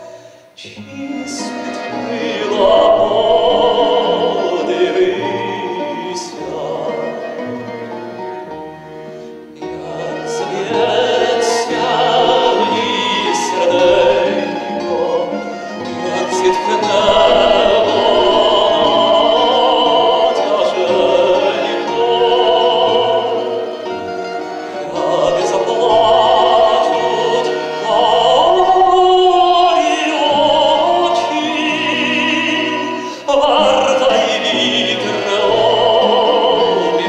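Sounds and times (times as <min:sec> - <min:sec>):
man singing operatically: 0:00.0 - 0:07.9, 0:09.6 - 0:37.0.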